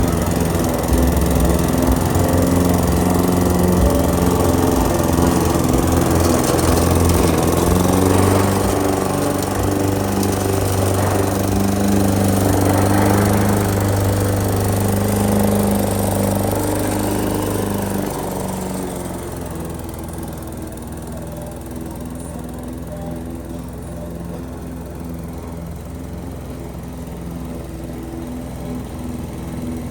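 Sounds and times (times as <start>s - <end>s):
lawn mower engine running: 0.0s - 29.9s.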